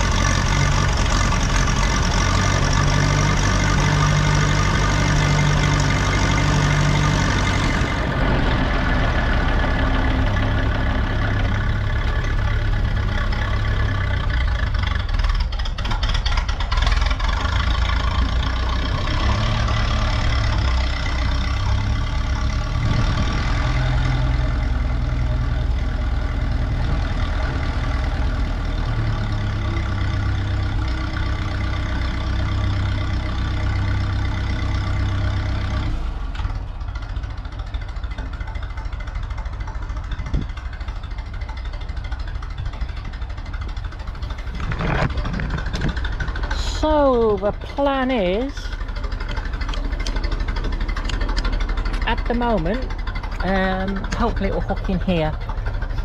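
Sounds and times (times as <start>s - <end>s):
clatter: 0.0s - 56.0s
tractor engine running: 0.0s - 56.0s.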